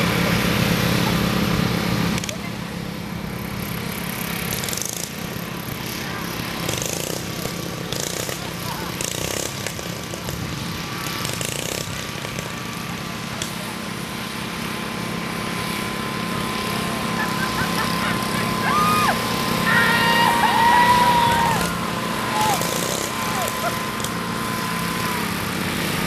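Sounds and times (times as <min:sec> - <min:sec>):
lawn tractor engine running: 0:00.0 - 0:26.0.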